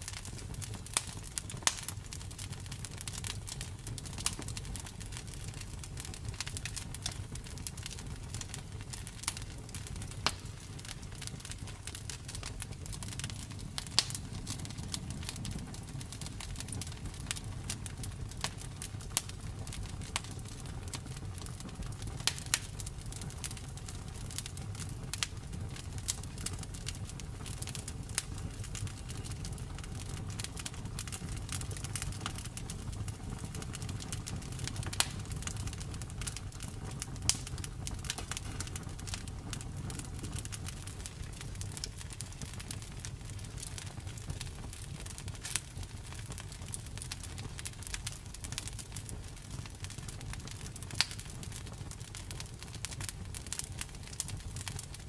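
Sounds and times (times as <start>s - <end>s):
low rumble of burning: 0.0s - 55.0s
wood fire crackling and popping: 0.0s - 55.0s.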